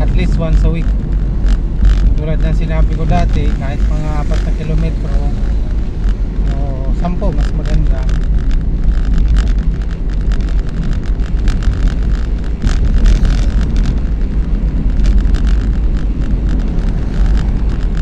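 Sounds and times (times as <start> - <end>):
car engine and road rumble: 0.0 - 18.0
wind buffeting microphone: 0.0 - 18.0.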